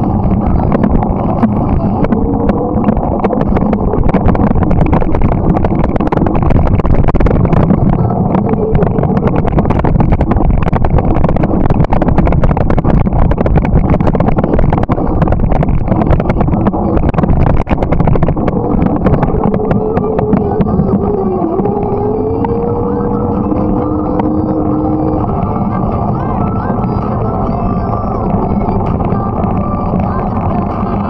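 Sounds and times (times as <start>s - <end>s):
low road rumble: 0.0s - 31.0s
wind buffeting microphone: 0.0s - 31.0s.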